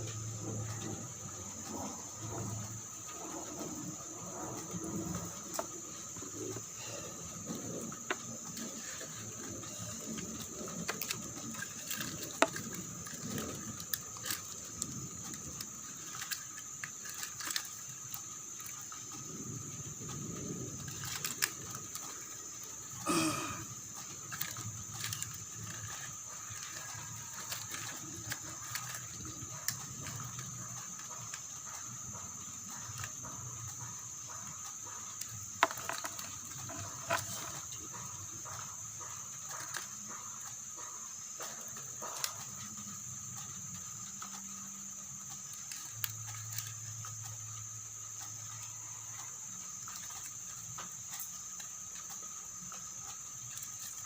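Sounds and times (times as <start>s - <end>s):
insect drone: 0.0s - 54.0s.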